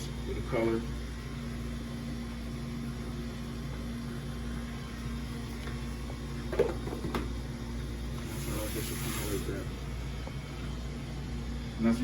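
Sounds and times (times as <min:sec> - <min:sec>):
kitchen equipment humming: 0:00.0 - 0:12.0.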